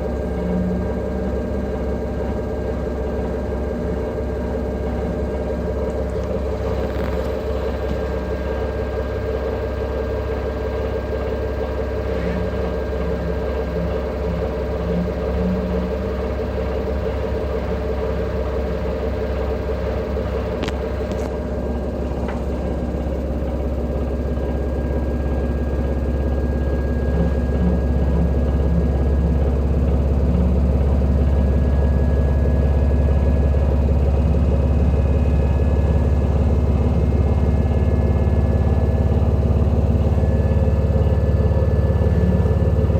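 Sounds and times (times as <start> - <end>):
washing machine spinning: 0.0 - 42.9.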